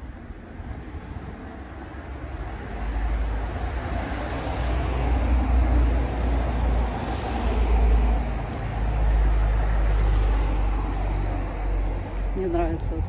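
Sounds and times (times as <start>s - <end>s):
car passing close by: 1.0s - 12.4s.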